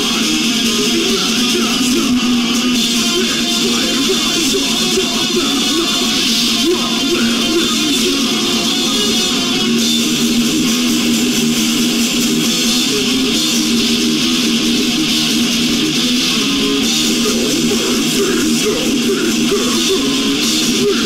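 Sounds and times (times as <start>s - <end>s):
bass guitar: 0.0s - 21.0s
distorted electric guitar: 0.0s - 21.0s.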